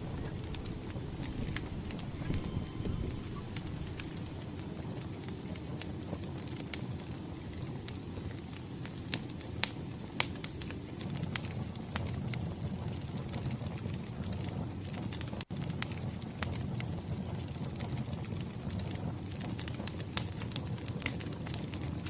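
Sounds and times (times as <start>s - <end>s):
fire crackles and pops: 0.0s - 22.0s
fire low rumble: 0.0s - 22.0s.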